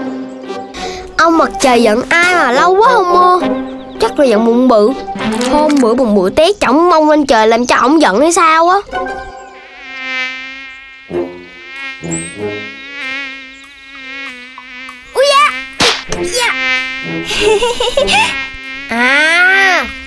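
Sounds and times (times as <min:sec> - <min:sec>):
cartoon mosquito buzzing: 0:00.5 - 0:20.0.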